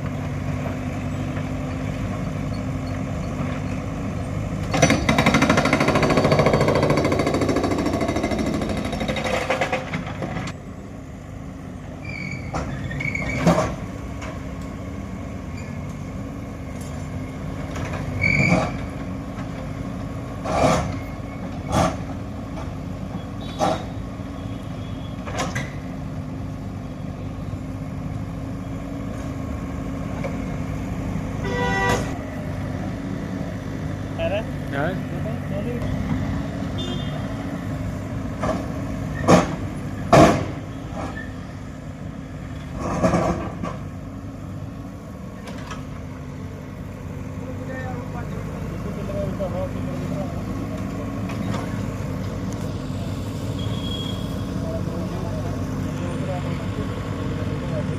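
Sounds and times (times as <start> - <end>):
engine hum: 0.0 - 57.9.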